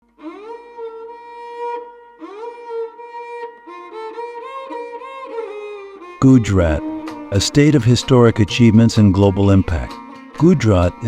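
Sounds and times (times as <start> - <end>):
bowed string melody: 0.0 - 11.0.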